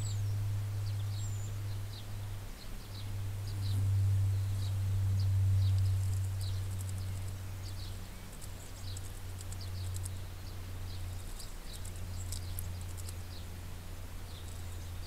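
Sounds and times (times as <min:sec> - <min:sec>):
birds chirping and clicking: 0:00.0 - 0:15.0
steady low hum: 0:00.0 - 0:15.0.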